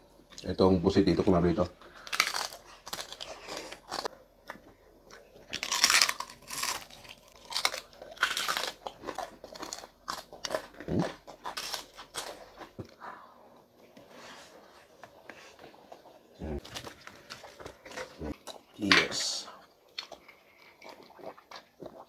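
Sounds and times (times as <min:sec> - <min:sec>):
person chewing crunchy food: 0:01.8 - 0:18.8, 0:19.6 - 0:22.0.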